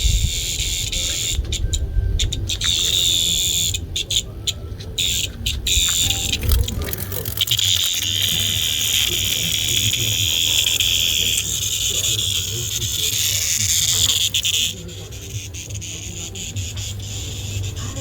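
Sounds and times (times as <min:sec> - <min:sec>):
cicada buzzing: 0:00.0 - 0:18.0.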